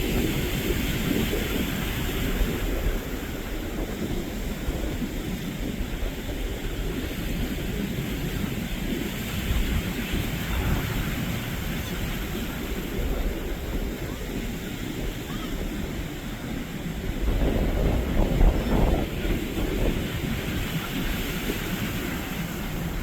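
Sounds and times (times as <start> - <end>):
surf washing: 0.0 - 23.0
wind buffeting microphone: 0.0 - 23.0.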